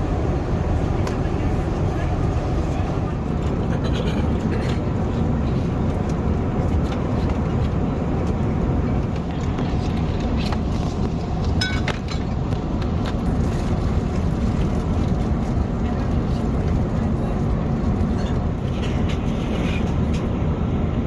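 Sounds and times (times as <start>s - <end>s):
aircraft cabin engine rush: 0.0s - 21.0s.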